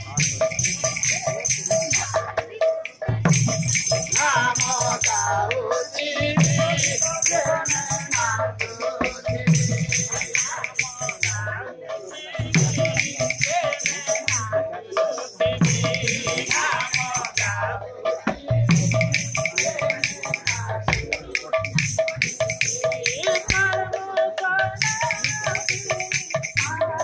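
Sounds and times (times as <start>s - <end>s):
jangling cymbals: 0.0s - 20.7s, 24.7s - 27.0s
drum strokes: 0.0s - 27.0s
man singing: 0.0s - 27.0s.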